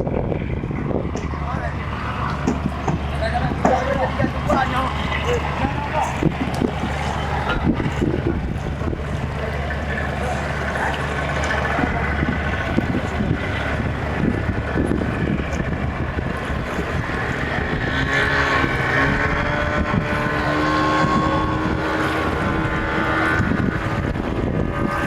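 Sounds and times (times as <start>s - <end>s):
boat engine humming: 0.0s - 25.0s
wind noise on microphone: 0.0s - 25.0s.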